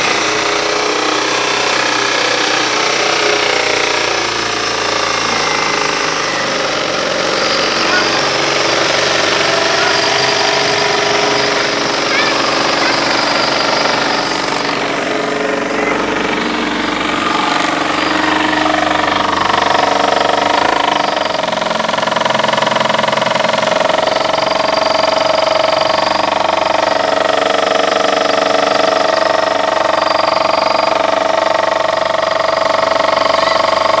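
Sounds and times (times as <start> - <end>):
car engine running: 0.0 - 34.0
loud steady whine: 0.0 - 34.0.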